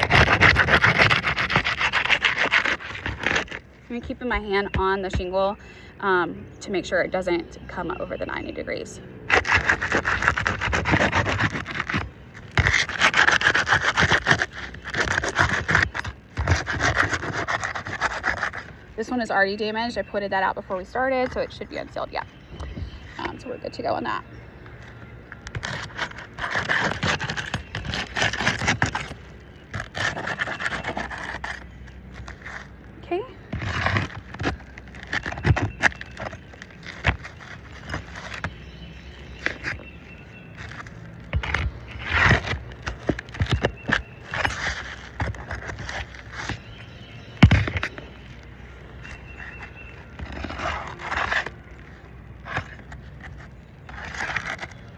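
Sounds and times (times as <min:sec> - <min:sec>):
roof shingles being scraped: 0:00.0 - 0:05.4, 0:09.3 - 0:54.9.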